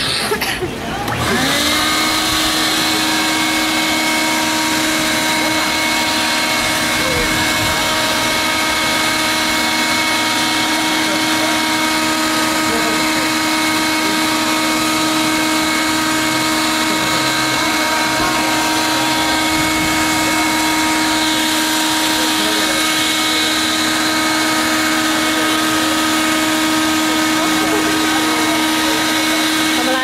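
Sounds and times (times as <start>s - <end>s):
electric air blower humming: 0.0s - 30.0s.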